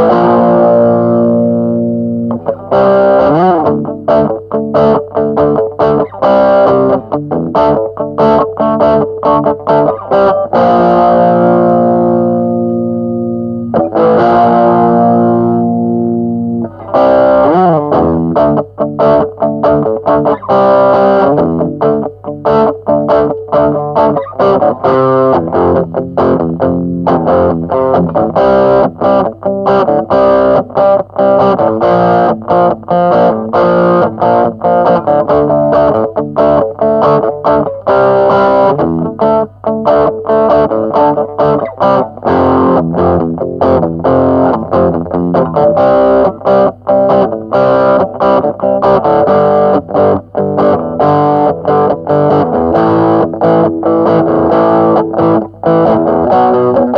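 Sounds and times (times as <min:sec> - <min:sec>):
distorted electric guitar: 0:00.0 - 0:56.9.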